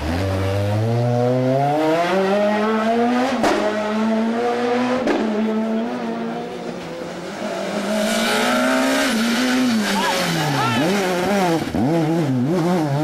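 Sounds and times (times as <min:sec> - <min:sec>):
rally car engines revving: 0:00.0 - 0:13.0.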